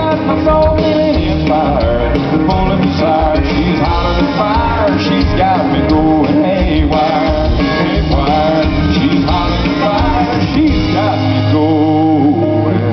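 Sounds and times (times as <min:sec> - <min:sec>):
live band music: 0:00.0 - 0:12.9
person singing: 0:00.0 - 0:12.9.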